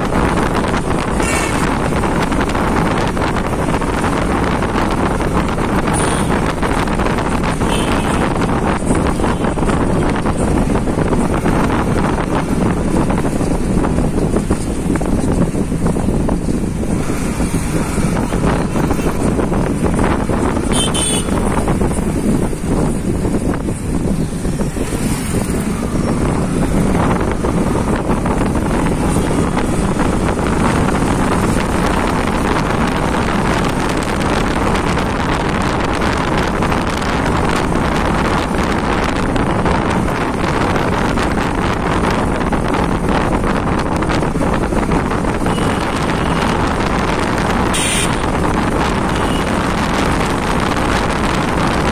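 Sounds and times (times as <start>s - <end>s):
road noise: 0.0s - 51.9s
wind rush on microphone: 0.0s - 51.9s.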